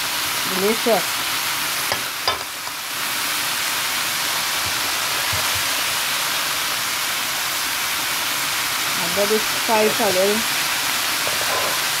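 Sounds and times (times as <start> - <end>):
chickpeas sizzling in oil: 0.0 - 12.0.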